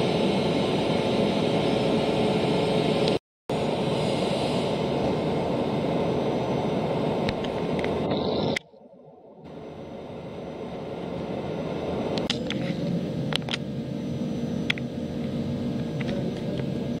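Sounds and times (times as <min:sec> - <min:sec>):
steady whine: 0:00.0 - 0:17.0.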